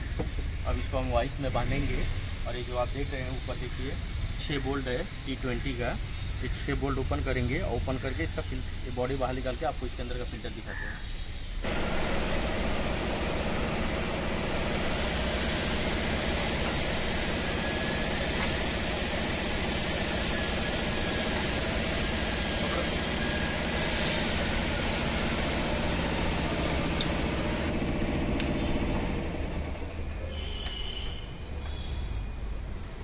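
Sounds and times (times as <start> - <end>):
hiss: 0.0 - 27.7.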